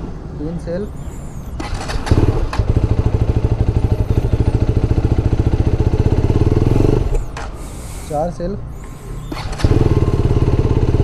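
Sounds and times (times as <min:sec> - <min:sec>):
motorcycle starter cranking: 0:01.1 - 0:11.0.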